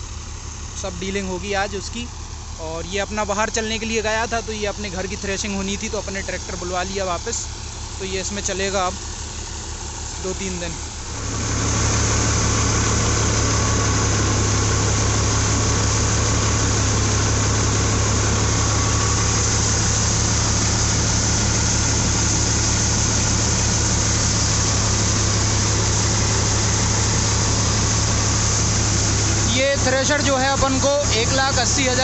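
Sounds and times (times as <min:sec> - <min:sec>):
diesel tractor engine throbbing: 0:00.0 - 0:32.0
thresher rushing hiss: 0:04.6 - 0:32.0.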